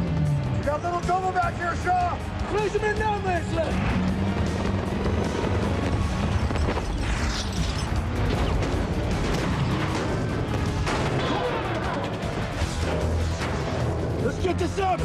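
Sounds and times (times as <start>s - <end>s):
dramatic score music: 0.0s - 15.0s.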